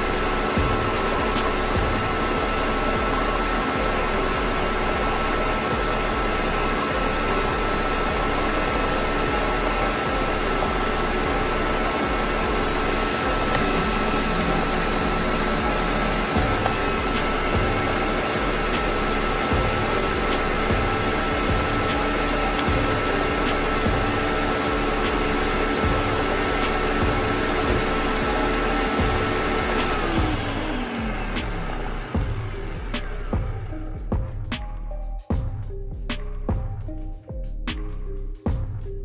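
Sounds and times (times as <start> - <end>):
blender running: 0.0 - 33.9.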